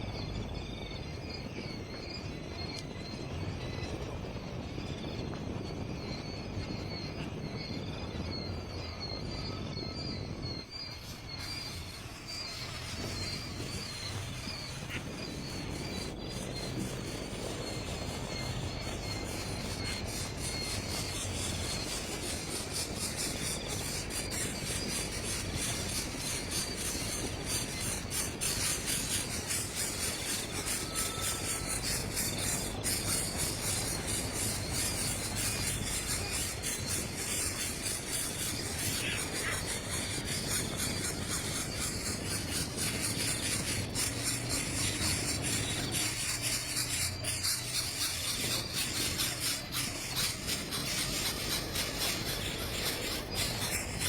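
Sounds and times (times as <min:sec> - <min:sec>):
bird chirps: 0:00.0 - 0:54.0
insects chirring: 0:00.0 - 0:54.0.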